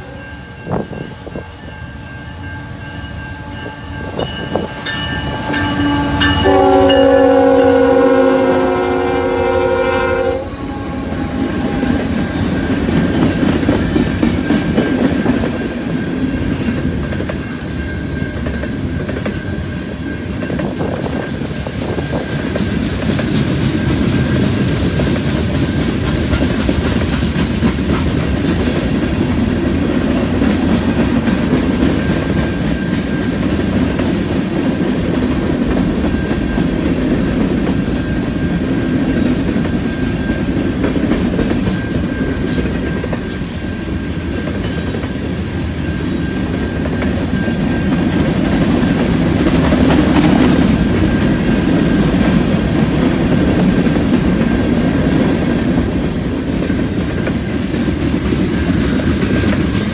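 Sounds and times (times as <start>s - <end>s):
freight train wheels clacking on rails: 0.0s - 59.9s.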